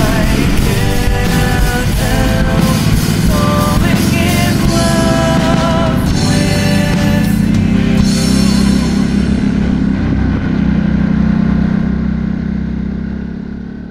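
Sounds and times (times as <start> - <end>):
rock music with drums: 0.0 - 11.3
steady low drone: 0.0 - 13.9.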